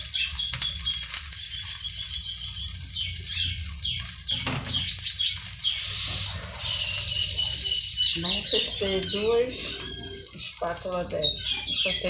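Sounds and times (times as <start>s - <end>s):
bird chirping: 0.0s - 12.0s
omelette sizzling in a pan: 0.0s - 12.0s.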